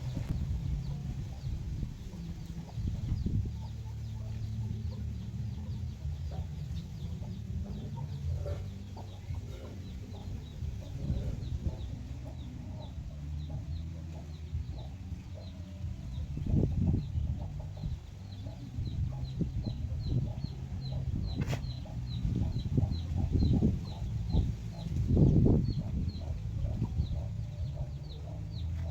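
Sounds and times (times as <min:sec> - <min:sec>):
chickens clucking: 0:00.0 - 0:28.9
chicks peeping: 0:00.0 - 0:28.9.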